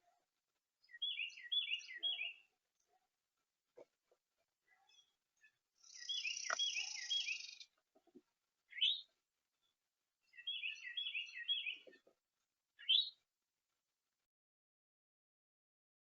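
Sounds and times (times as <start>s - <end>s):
songbird singing: 0.0s - 13.3s.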